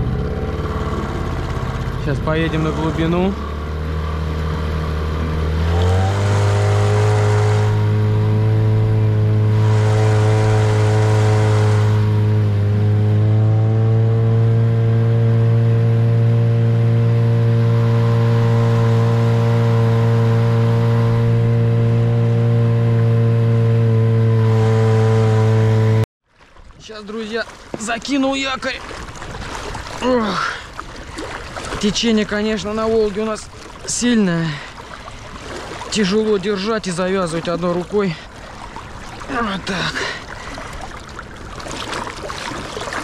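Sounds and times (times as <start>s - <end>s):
boat motor running: 0.0s - 43.0s.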